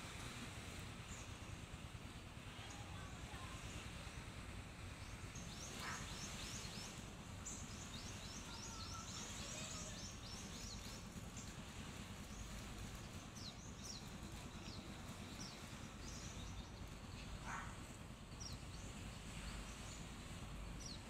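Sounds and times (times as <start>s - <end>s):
low rumble of wind and surf: 0.0s - 21.0s.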